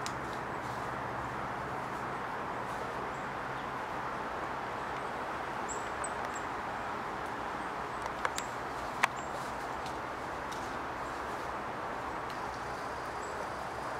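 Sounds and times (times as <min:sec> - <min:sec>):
background hiss: 0:00.0 - 0:13.9.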